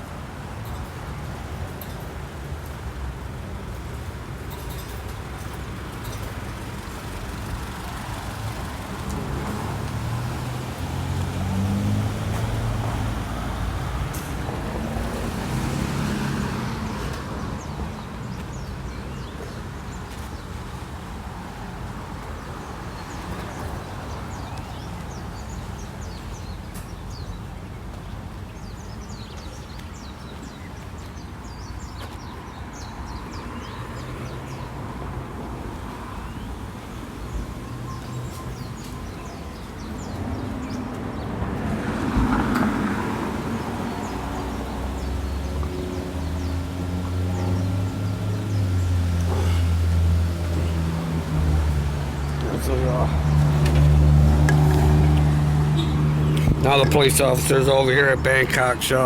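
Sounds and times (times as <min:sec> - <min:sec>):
road vehicles passing: 0:00.0 - 0:59.0.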